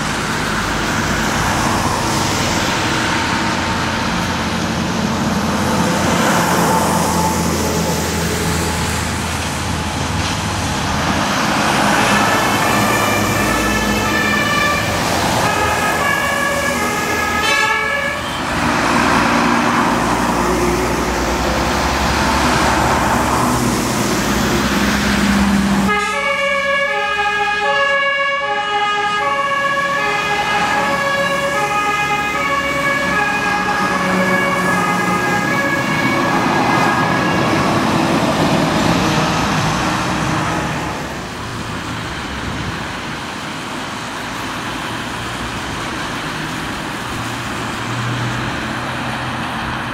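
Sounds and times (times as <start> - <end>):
fire engine two-tone sirens: 0.0 - 49.9
heavy truck engines: 0.0 - 49.9
tyres on wet road: 0.0 - 49.9.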